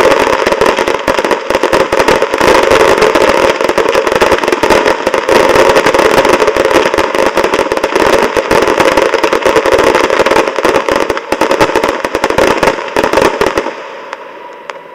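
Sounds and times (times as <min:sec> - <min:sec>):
fireworks bursting and crackling: 0:00.0 - 0:14.9.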